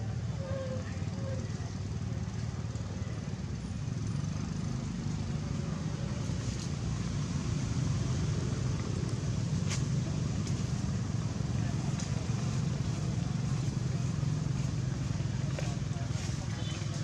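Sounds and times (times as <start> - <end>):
motorbike engine rumble: 0.0 - 17.0.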